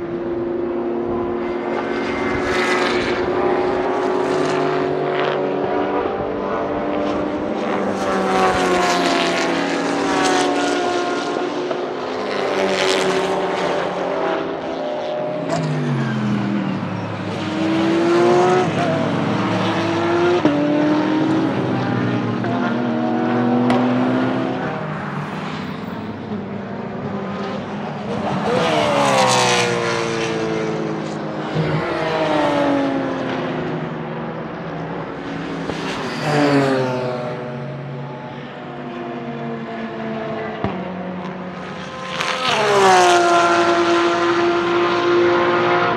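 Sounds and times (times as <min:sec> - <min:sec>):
race car engines revving: 0:00.0 - 0:45.9.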